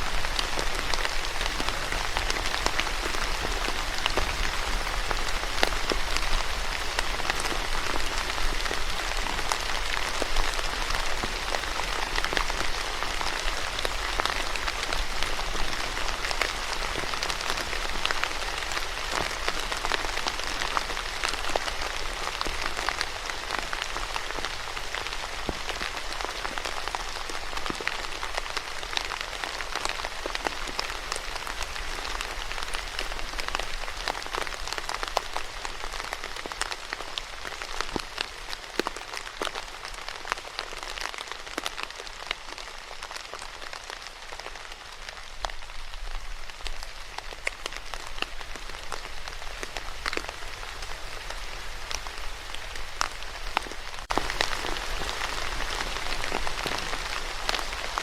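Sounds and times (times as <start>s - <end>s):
rain pattering on hard surface: 0.0s - 58.0s.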